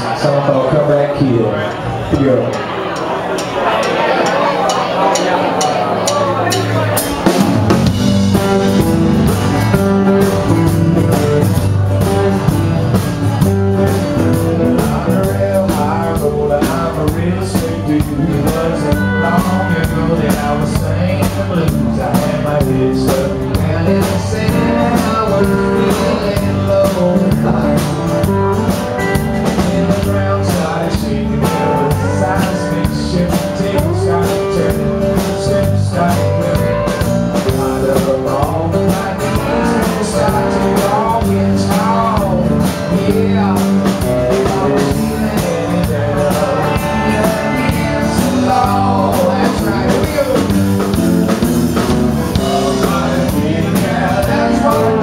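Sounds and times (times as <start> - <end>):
bass guitar: 0.0 - 55.0
electric guitar: 1.7 - 55.0
drum kit: 2.2 - 55.0
strummed acoustic guitar: 2.4 - 55.0
man singing: 4.6 - 55.0.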